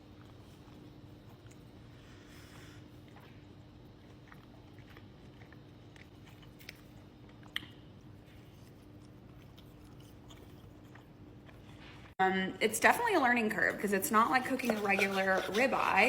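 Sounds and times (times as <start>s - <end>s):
chewing steak: 0.0s - 12.2s, 14.2s - 16.0s
faint steady hum: 0.0s - 16.0s.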